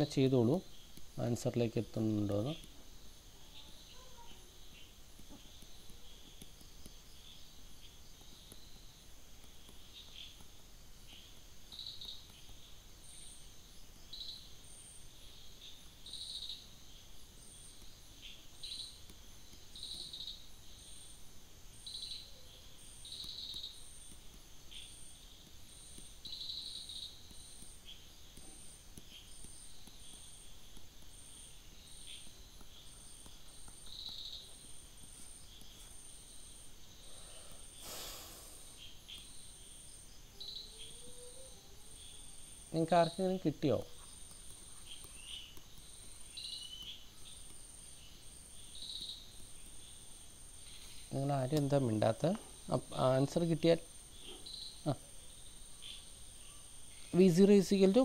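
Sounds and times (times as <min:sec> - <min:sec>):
insect chirps: 0:00.0 - 0:58.0
insect trilling: 0:00.0 - 0:58.0.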